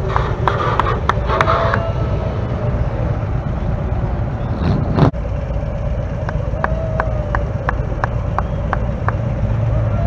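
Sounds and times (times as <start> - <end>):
car engines driving past slowly: 0.0 - 10.0
low street noise: 0.0 - 10.0.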